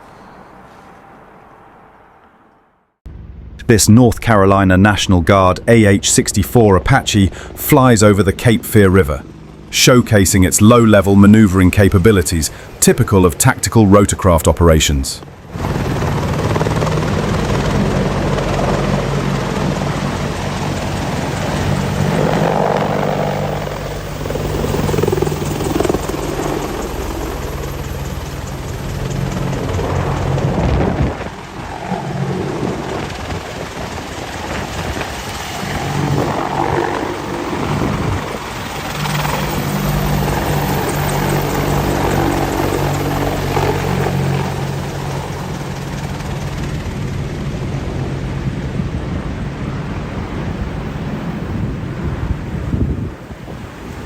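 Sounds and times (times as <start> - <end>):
helicopter rotor beating: 3.2 - 52.5.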